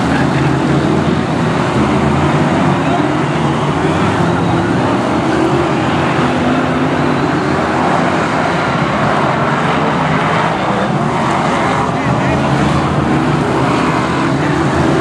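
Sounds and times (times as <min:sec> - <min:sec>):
racing car engines roaring: 0:00.0 - 0:15.0.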